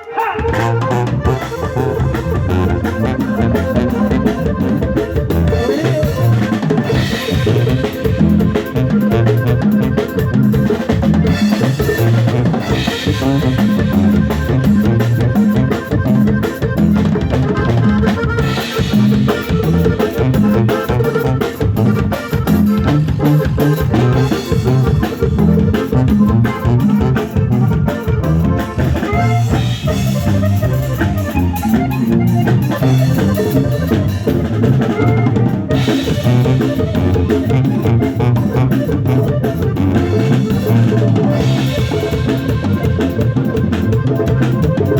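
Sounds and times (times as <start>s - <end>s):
drums: 0.0s - 44.9s
live cumbia band playing: 0.0s - 44.9s.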